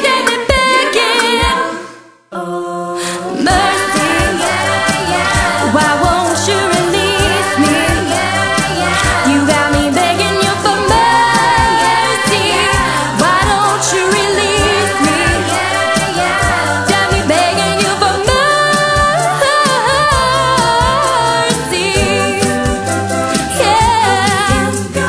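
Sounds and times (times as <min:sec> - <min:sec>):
a cappella group singing: 0:00.0 - 0:25.0
steady beat: 0:03.5 - 0:25.0.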